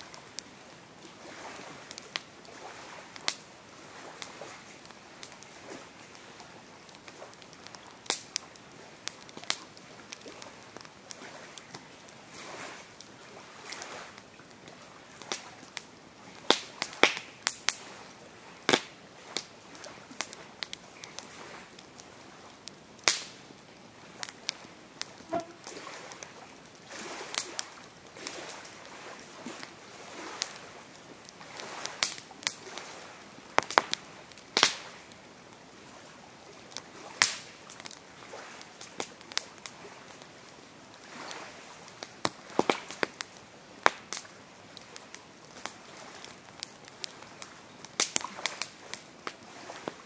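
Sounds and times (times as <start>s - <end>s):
campfire crackling and popping: 0.0s - 50.0s
soft steady hiss: 0.0s - 50.0s.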